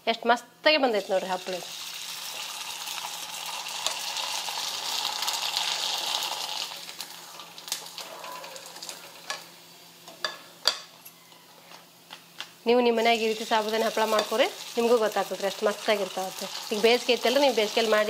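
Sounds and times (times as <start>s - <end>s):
papad sizzling in oil: 0.9s - 10.6s, 11.4s - 18.0s.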